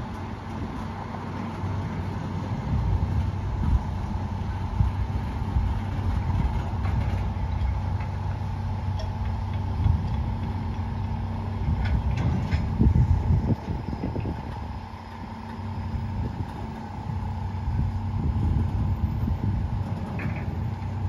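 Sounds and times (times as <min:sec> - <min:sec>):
train diesel engine rumbling: 0:00.0 - 0:21.0.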